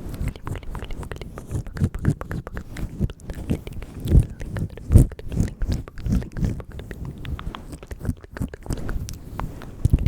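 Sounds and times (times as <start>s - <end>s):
wet mouth clicks and smacks: 0.1s - 10.0s.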